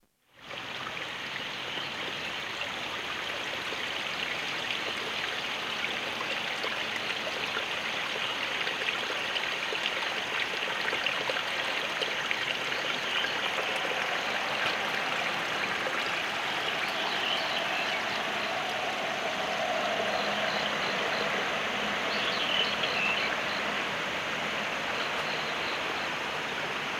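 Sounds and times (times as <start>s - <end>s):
running water rushing: 0.4s - 26.9s
faint steady hum: 0.7s - 26.9s.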